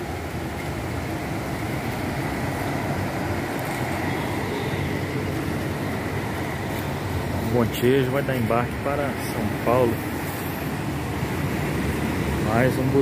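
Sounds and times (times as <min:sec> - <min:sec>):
diesel coach passing: 0:00.0 - 0:13.0.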